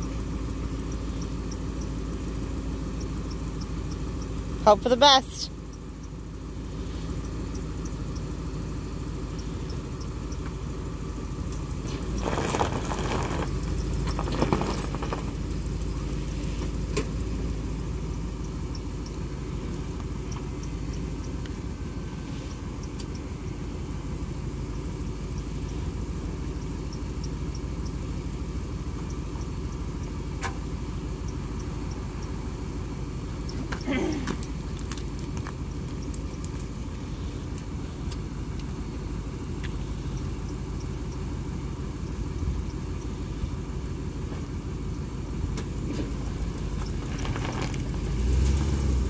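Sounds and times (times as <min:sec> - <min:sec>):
vehicle engine idling: 0:00.0 - 0:49.0.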